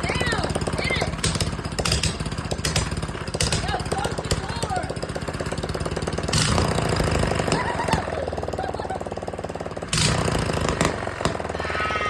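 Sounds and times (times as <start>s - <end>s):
exhaust pops: 0.0s - 12.0s
mini bike engine revving: 0.0s - 12.0s.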